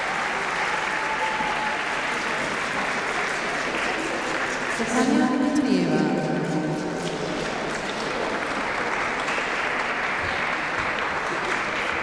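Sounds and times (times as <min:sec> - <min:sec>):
audience applauding: 0:00.0 - 0:05.5, 0:06.3 - 0:12.0.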